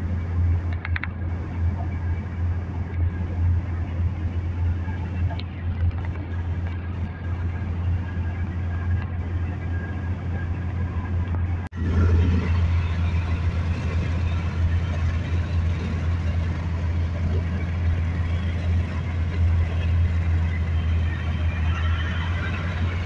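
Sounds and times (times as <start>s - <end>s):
car engine and tyres at highway speed: 0.0s - 23.0s.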